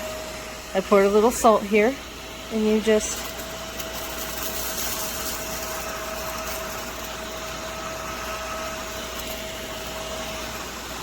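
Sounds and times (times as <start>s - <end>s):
mini vacuum humming: 0.0s - 11.0s.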